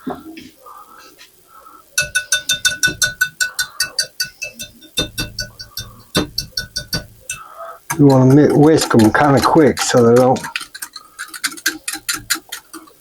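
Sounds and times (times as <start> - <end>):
whisk clinking in a bowl: 2.0 - 13.0.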